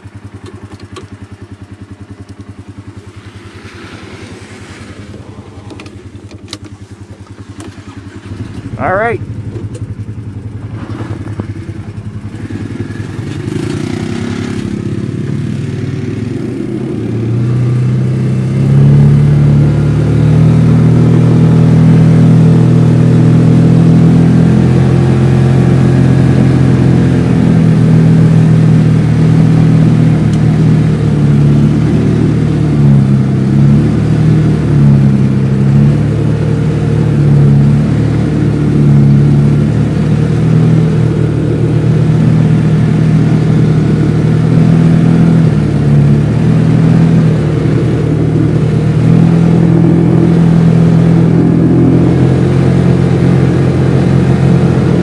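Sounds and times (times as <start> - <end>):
utility vehicle engine: 0.0 - 55.0.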